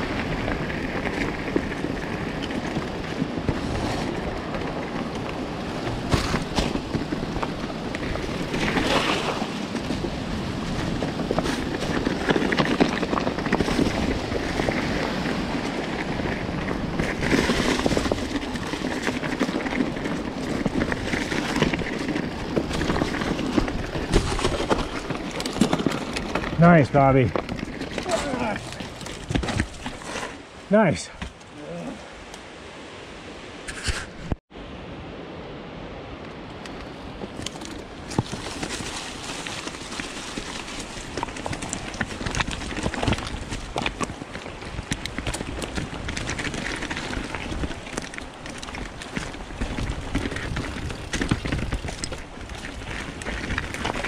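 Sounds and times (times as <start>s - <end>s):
bike clicking and rattling: 0.0s - 30.4s, 36.6s - 54.0s
bike tyre and wind rush: 0.0s - 54.0s.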